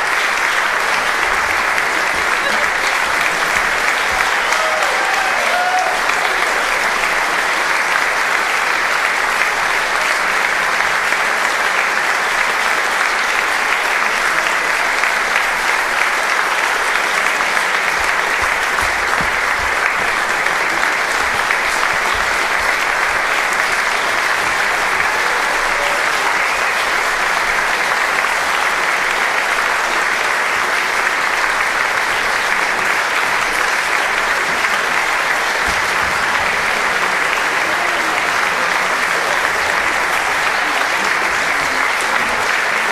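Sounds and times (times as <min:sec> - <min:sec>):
audience applauding: 0:00.0 - 0:42.9.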